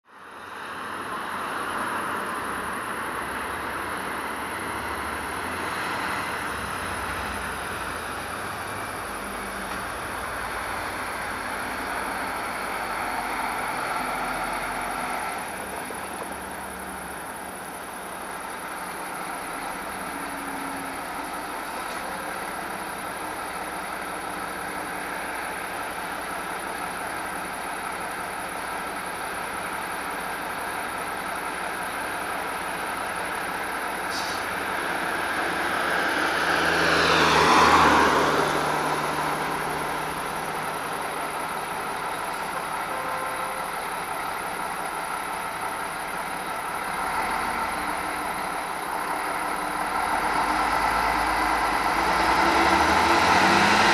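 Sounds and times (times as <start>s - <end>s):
distant diesel engine running: 3.0s - 53.9s.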